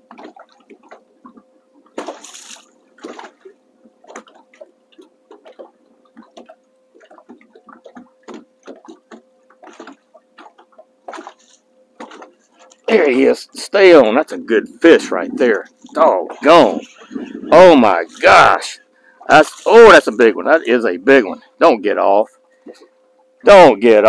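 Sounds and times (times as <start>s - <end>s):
small waves slapping boat hull: 0.0s - 13.4s, 14.0s - 21.3s, 22.2s - 23.7s
faint steady hum: 0.0s - 24.0s.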